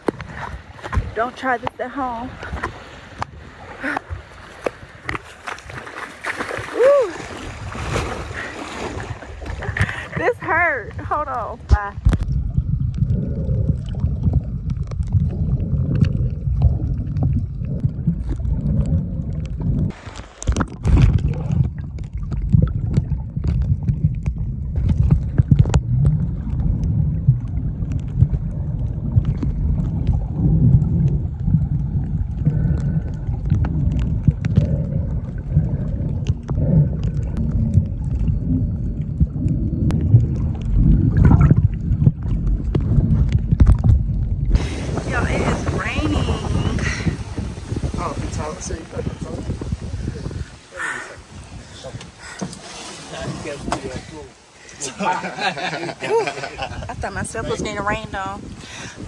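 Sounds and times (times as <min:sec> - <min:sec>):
water splash: 0:00.0 - 0:10.6, 0:11.7 - 0:58.9
low underwater rumble: 0:00.0 - 0:59.0.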